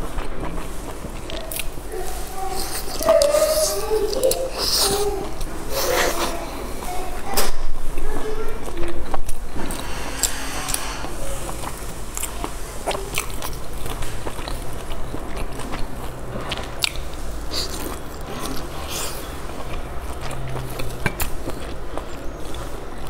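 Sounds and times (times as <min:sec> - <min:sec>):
chewing dumplings: 0:00.0 - 0:23.0
wet mouth noises: 0:00.0 - 0:23.0.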